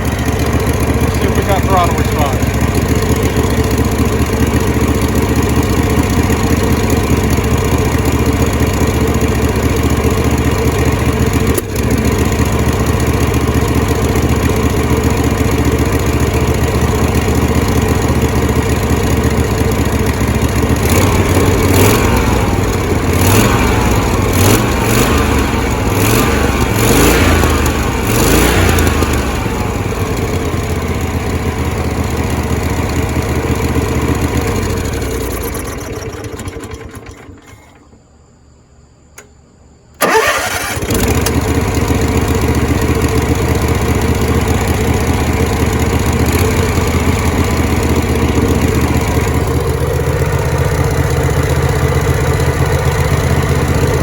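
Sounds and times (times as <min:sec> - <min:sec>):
small engine running and surging: 0:00.0 - 0:37.8, 0:40.0 - 0:54.0.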